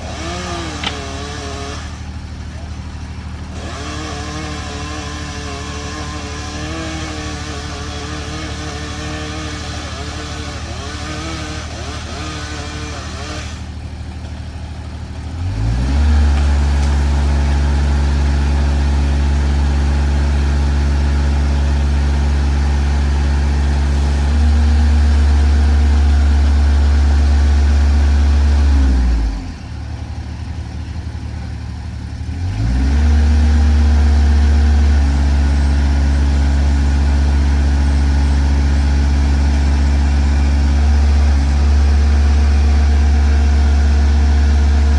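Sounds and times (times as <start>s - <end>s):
machine engine revving: 0.0s - 14.0s, 15.2s - 29.7s, 32.3s - 44.9s.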